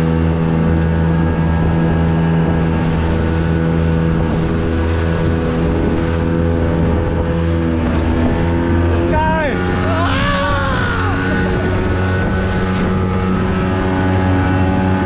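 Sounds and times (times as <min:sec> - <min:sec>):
outboard motor running: 0:00.0 - 0:15.0
wind and water rushing: 0:00.0 - 0:15.0.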